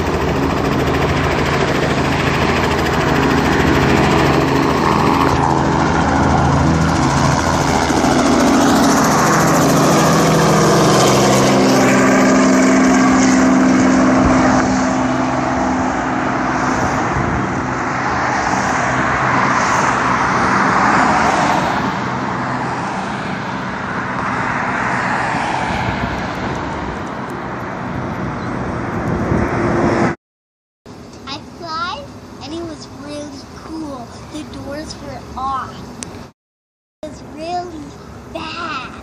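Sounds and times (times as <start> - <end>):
helicopter rotor and engine: 0.0 - 20.8, 23.4 - 25.0, 26.0 - 30.2, 30.9 - 36.3, 37.0 - 39.0.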